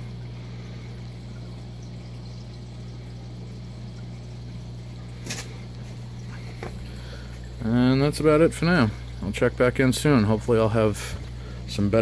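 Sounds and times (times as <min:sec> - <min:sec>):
water trickling and bubbling: 0:00.0 - 0:12.0.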